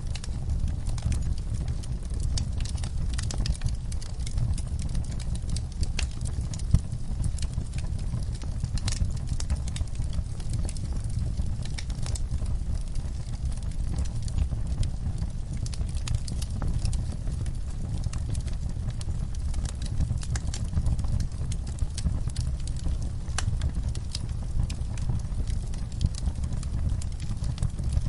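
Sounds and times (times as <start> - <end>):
fire crackling and popping: 0.0 - 28.0
fire flames rumbling: 0.0 - 28.0.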